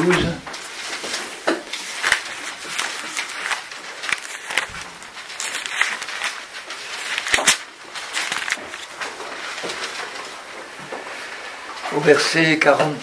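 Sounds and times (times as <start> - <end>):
page flips: 0.0 - 12.2
thin paper pages rustling: 0.0 - 12.4.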